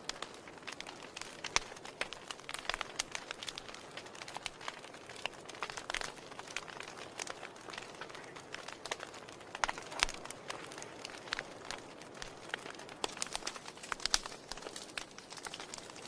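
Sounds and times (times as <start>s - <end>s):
soft fire hiss: 0.0s - 16.0s
wood fire crackling and popping: 0.0s - 16.0s.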